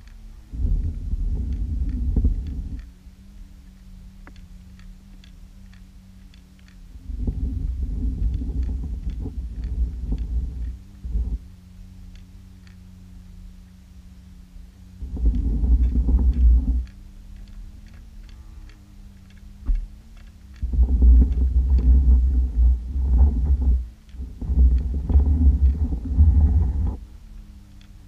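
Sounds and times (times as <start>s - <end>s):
faint clicks: 0.0s - 28.0s
low underwater rumbling: 0.0s - 28.0s
steady low hum: 0.0s - 28.0s.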